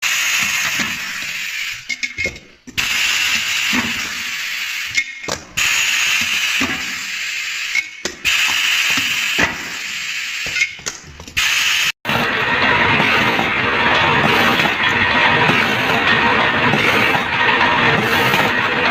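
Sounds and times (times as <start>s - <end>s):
machine hissing: 0.0s - 10.8s, 11.4s - 18.9s.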